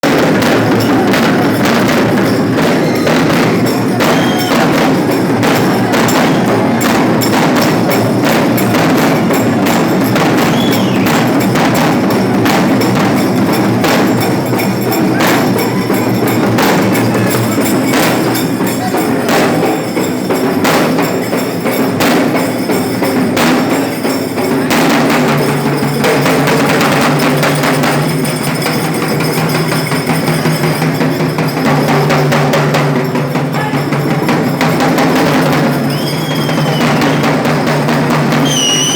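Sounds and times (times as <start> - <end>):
fast drumming: 0.0 - 38.9.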